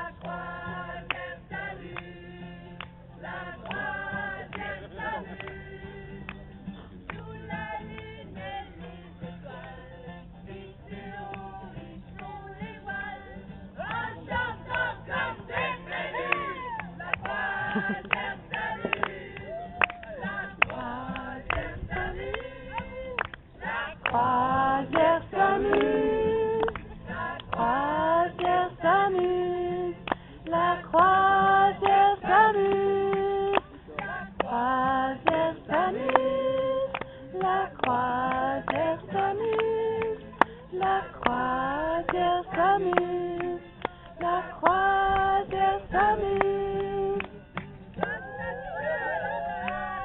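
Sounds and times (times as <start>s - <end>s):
women singing in a group: 0.0s - 6.4s, 7.0s - 47.4s
strummed acoustic guitar: 0.0s - 48.3s.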